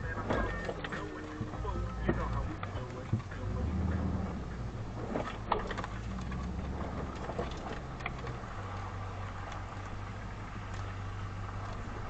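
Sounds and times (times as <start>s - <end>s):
tyre and road noise: 0.0s - 12.0s
vehicle engine running: 0.0s - 12.0s.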